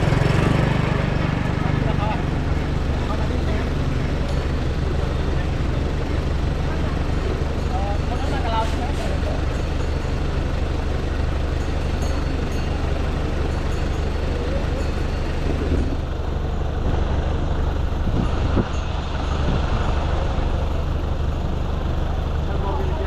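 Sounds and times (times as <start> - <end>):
traffic engine rumble: 0.0 - 23.0.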